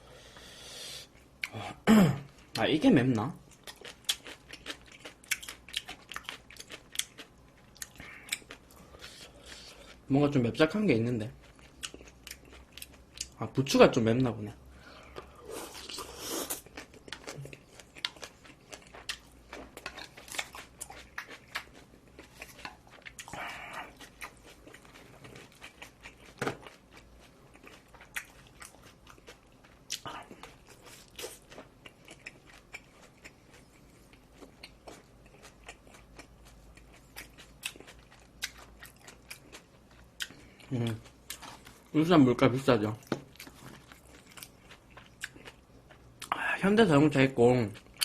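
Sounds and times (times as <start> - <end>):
chewing crunches: 3.5 - 10.0, 11.3 - 13.4, 15.0 - 41.9, 43.0 - 46.3.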